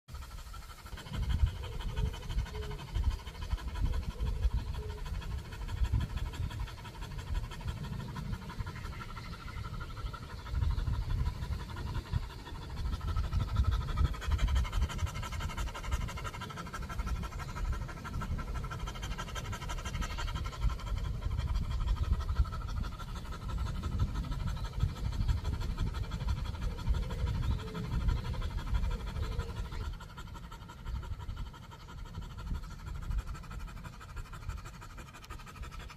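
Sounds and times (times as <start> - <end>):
dog panting: 0.1 - 35.9
gusty low rumbling: 0.1 - 35.9.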